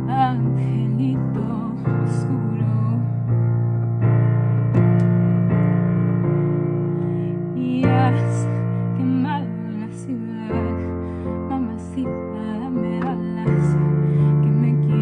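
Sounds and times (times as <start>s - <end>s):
digital piano chords: 0.0s - 15.0s.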